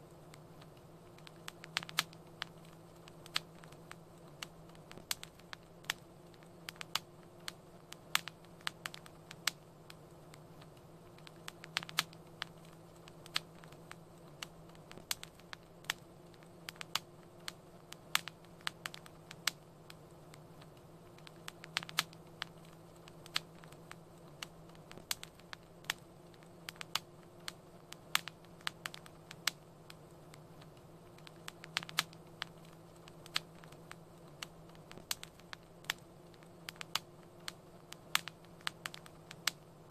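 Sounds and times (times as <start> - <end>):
faint low hum: 0.0 - 39.9
fire crackling: 0.0 - 39.9.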